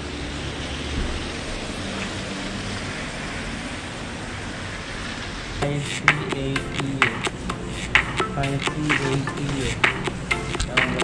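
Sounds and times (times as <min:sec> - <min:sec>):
city traffic noise: 0:00.0 - 0:11.0.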